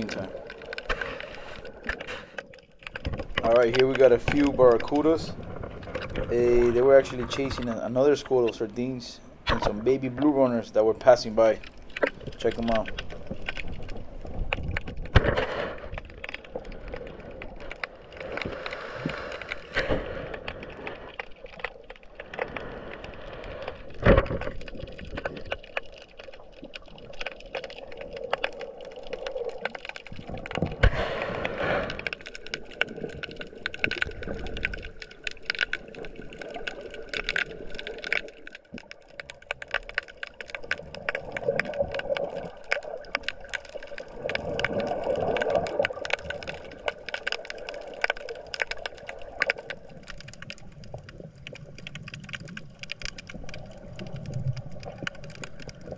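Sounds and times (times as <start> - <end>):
underwater crackling and clicking: 0.0 - 55.9.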